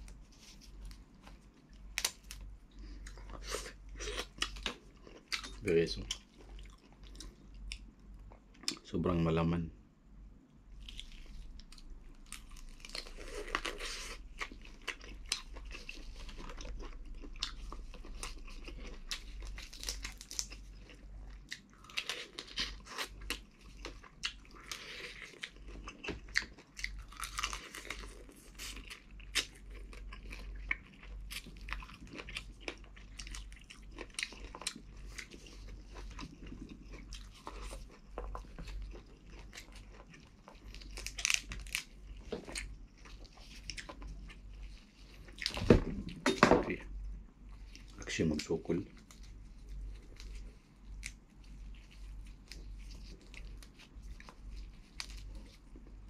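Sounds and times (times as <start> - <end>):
faint low hum: 0.0 - 56.0
person chewing and biting: 0.2 - 8.8, 10.8 - 46.2, 48.9 - 56.0.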